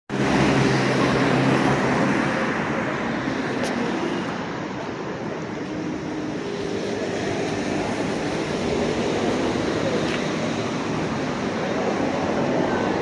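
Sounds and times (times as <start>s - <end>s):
traffic rumble: 0.1s - 13.0s.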